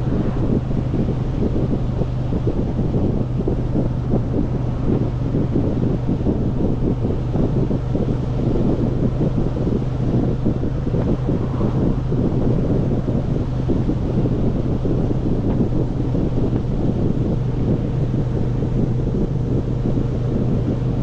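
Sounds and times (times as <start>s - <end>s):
motorcycle engine drone: 0.0s - 21.0s
wind buffeting microphone: 0.0s - 21.0s.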